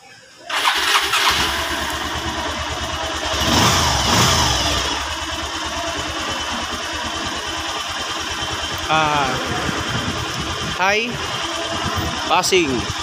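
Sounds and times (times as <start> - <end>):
motorcycle engine idling: 0.5 - 13.0.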